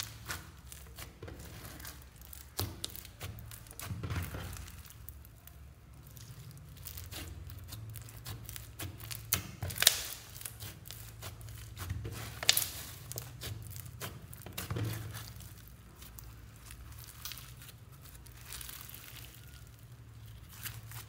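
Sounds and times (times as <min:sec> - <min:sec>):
slime crackling and clicking: 0:00.0 - 0:21.0
slime popping: 0:00.0 - 0:21.0.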